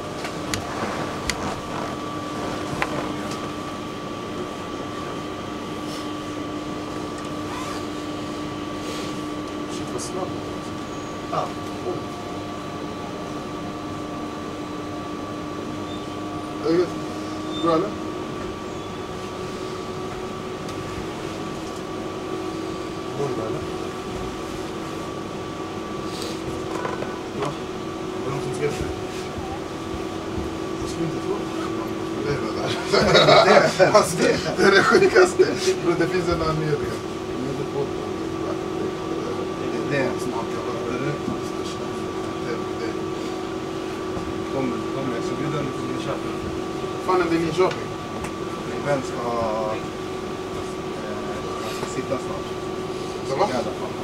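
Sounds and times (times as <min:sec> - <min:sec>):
tram humming and whining: 0:00.0 - 0:54.0.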